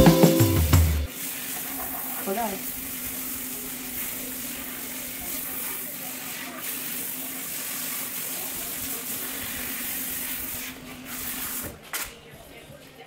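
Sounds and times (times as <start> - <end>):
water sprayer hissing: 0.0 - 11.6.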